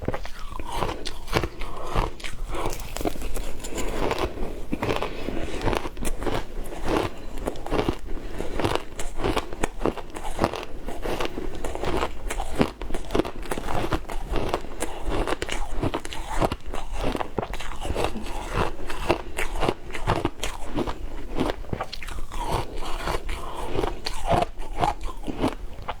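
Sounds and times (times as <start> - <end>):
ice crunching while chewed: 0.0 - 26.0.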